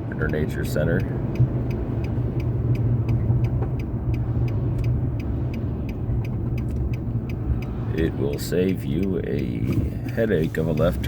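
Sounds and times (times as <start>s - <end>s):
car road and engine rumble: 0.0s - 11.0s
light ticking: 0.1s - 11.0s.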